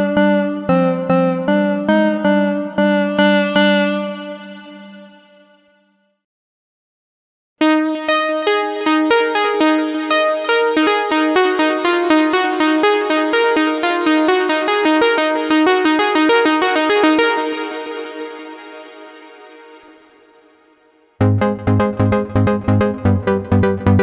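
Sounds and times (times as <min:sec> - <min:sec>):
synthesizer plucked notes: 0:00.0 - 0:05.4, 0:07.6 - 0:24.0.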